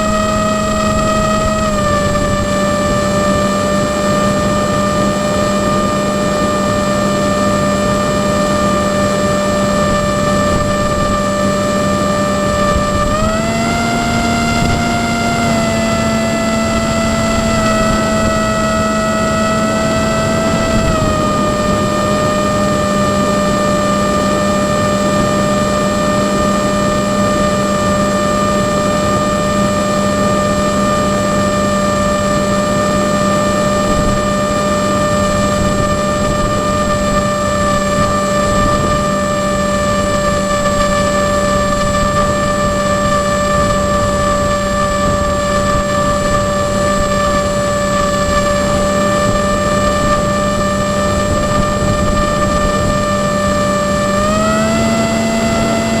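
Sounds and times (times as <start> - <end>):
drone propellers whining: 0.0 - 56.0.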